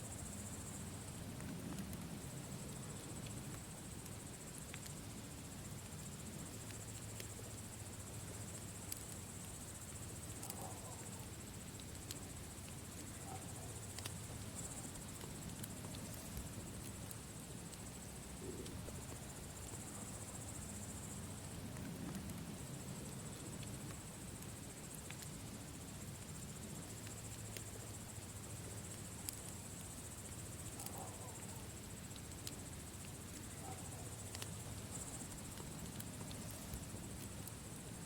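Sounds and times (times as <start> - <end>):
crickets trilling: 0.0 - 38.0
campfire crackling and popping: 0.2 - 38.0.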